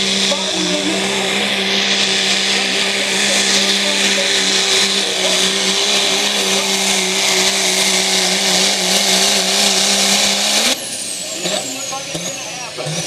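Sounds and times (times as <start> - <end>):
pickup engine at full throttle: 0.0 - 13.0.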